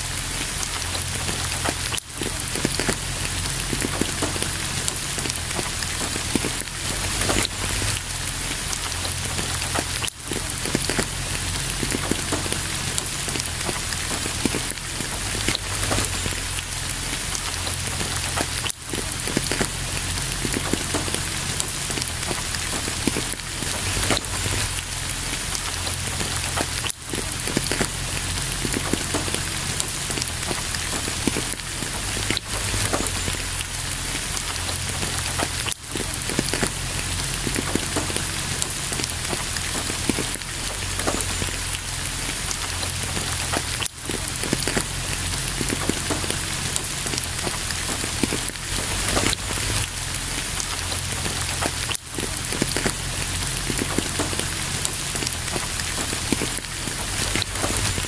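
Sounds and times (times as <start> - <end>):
rain drops ticking on hard surface: 0.0 - 58.0.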